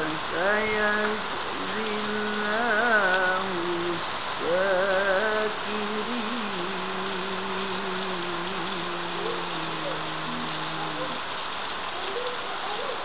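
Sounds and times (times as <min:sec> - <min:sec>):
woman chanting melodically: 0:00.0 - 0:11.4
steady hiss: 0:00.0 - 0:13.0.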